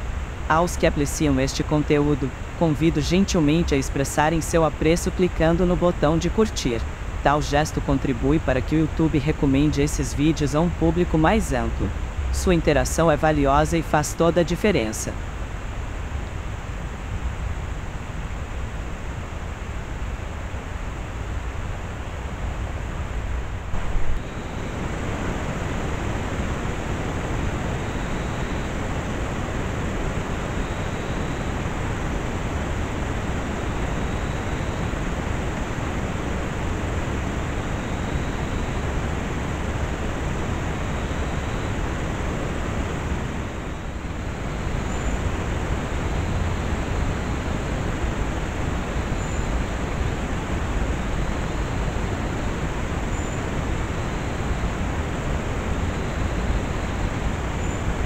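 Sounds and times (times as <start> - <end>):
steady recording hiss: 0.0 - 58.0.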